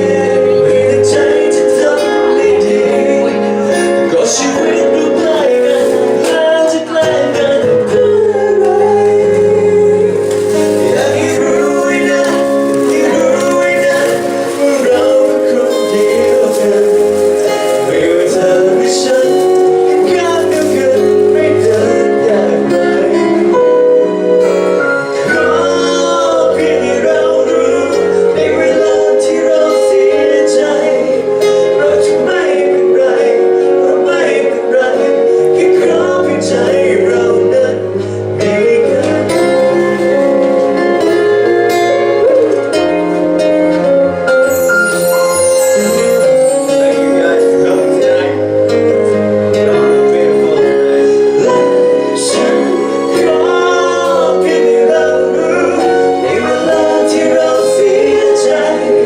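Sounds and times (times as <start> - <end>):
pop song over sound system: 0.0 - 59.0.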